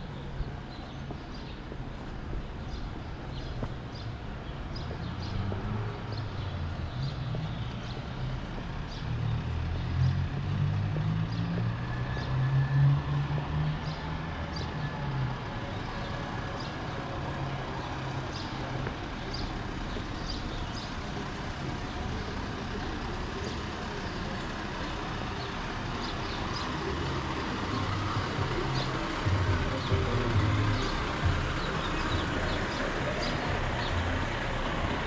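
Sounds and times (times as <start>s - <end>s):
low engine hum: 0.0s - 35.0s
road traffic noise: 0.0s - 35.0s.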